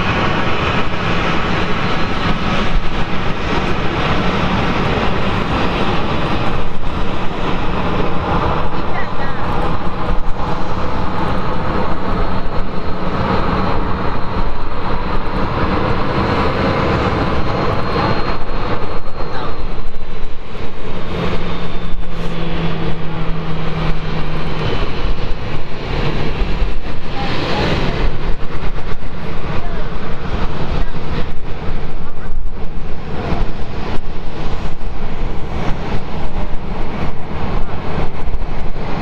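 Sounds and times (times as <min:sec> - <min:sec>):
distant jet engines roaring: 0:00.0 - 0:39.0.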